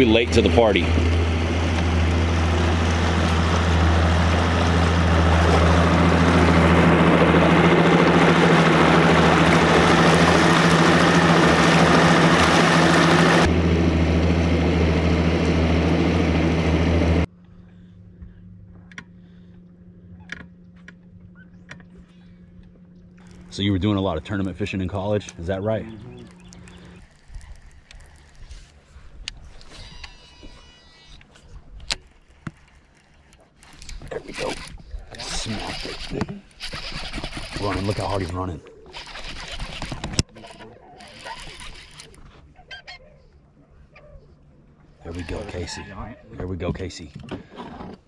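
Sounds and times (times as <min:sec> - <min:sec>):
outboard motor running: 0:00.0 - 0:42.6, 0:43.3 - 0:48.0.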